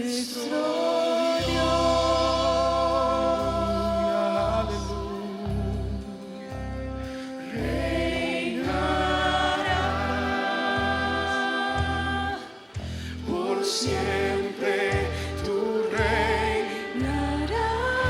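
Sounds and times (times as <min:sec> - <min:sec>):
worship music singing: 0:00.0 - 0:18.0.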